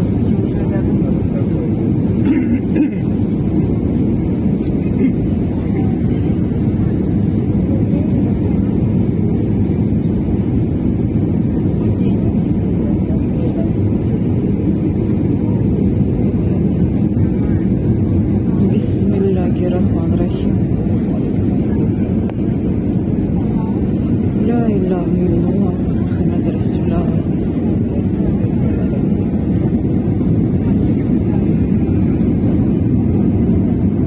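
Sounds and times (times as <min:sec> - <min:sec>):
airliner cabin engine rumble: 0:00.0 - 0:34.0.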